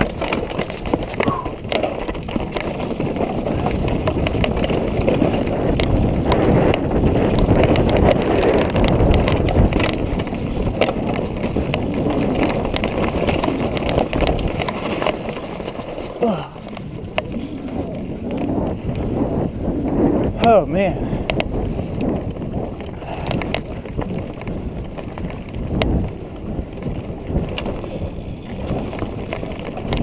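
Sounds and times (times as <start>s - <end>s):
bike rattling over bumps: 0.0s - 30.0s
bike tyres on rocky trail: 0.0s - 30.0s.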